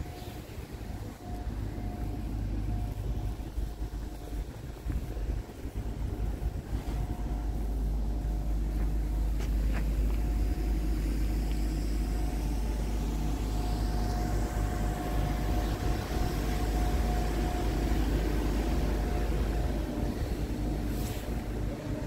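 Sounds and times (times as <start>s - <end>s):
diesel truck engine idling: 0.0s - 22.0s
thin steady whine: 0.0s - 22.0s.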